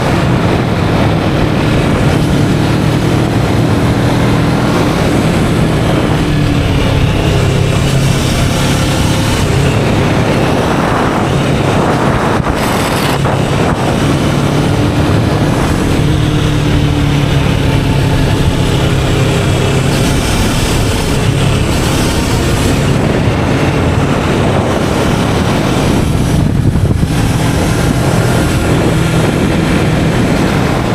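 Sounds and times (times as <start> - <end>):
motorcycle engine cruising: 0.0 - 30.9
wind buffeting microphone: 0.0 - 30.9.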